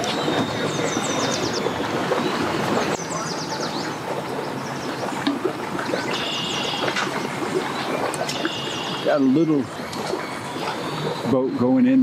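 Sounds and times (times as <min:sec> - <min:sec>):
bird chirping: 0:00.0 - 0:05.2, 0:06.0 - 0:11.8
outdoor background noise: 0:00.0 - 0:12.0.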